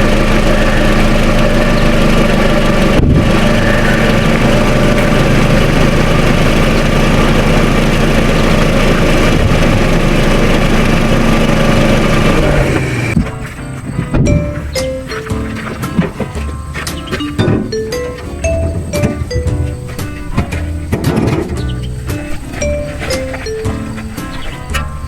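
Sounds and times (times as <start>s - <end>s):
car engine hum and road noise: 0.0s - 25.0s.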